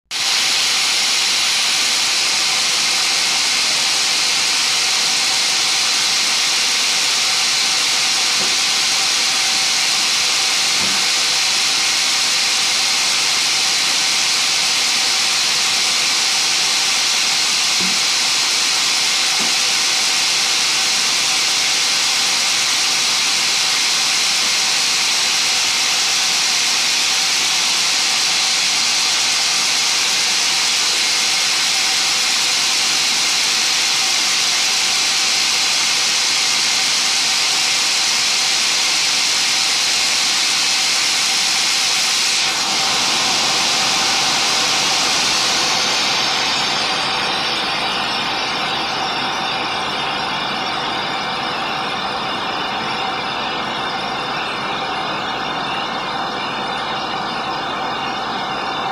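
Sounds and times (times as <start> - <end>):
band saw running: 0.1 - 58.9.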